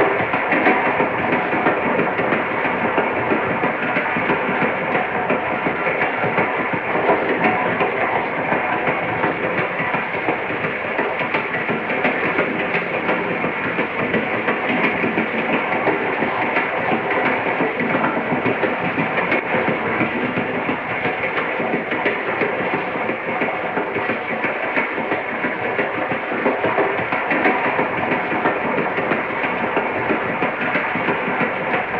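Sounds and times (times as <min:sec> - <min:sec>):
train rumbling and rattling: 0:00.0 - 0:31.9.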